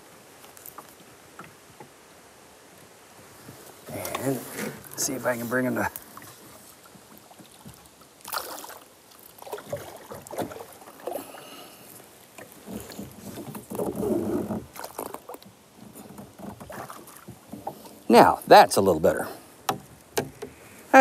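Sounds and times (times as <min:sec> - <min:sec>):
water splashing: 0:03.3 - 0:21.0.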